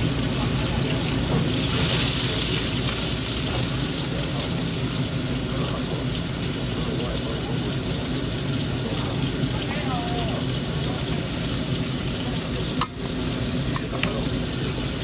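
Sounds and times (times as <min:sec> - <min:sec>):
faint voices: 0:00.1 - 0:15.0.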